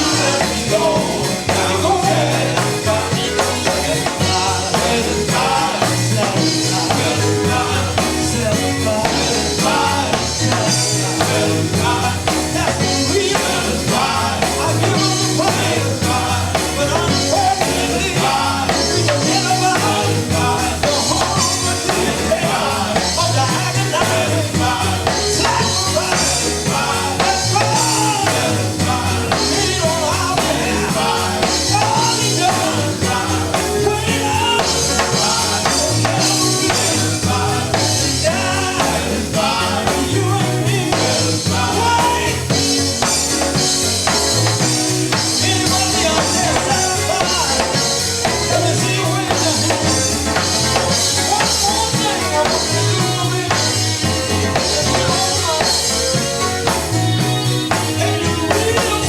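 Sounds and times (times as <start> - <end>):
bass guitar: 0.0 - 59.0
drum kit beat: 0.0 - 59.0
gospel group singing: 0.0 - 59.0.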